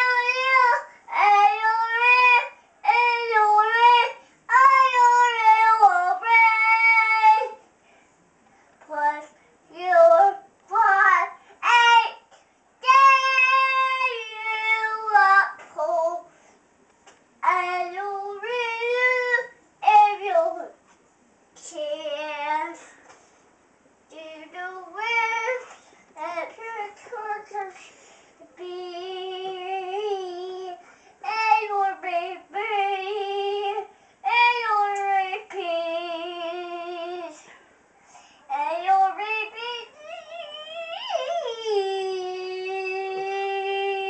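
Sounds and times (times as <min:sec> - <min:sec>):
boy singing in mock-opera style: 0:00.0 - 0:07.6, 0:08.8 - 0:16.3, 0:17.4 - 0:20.7, 0:21.6 - 0:22.8, 0:24.1 - 0:27.8, 0:28.6 - 0:37.4, 0:38.5 - 0:44.0.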